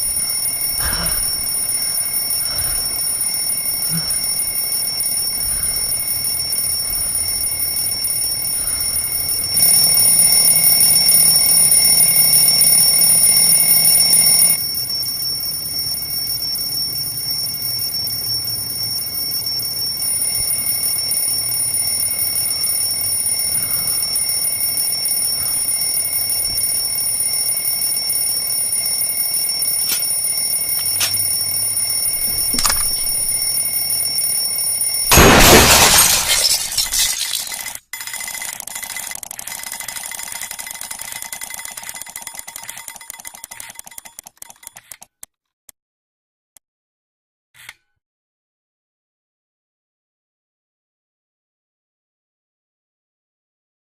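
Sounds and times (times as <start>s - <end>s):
alarm clock ringing: 0.0s - 35.6s, 36.3s - 44.8s.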